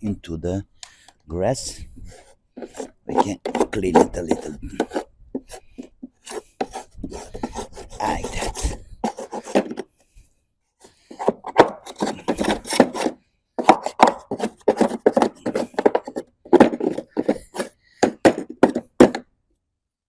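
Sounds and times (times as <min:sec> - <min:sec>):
scrubbing and scraping on lawnmower: 0:01.6 - 0:09.9, 0:10.9 - 0:19.2.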